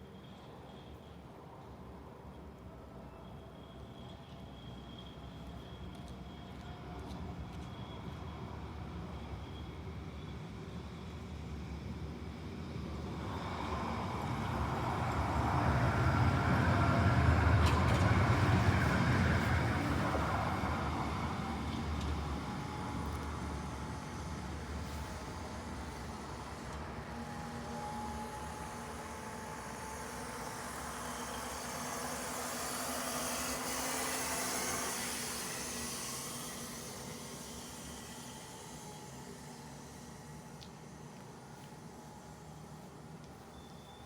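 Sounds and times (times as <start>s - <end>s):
tram rumble and wheel noise: 0.0s - 44.0s.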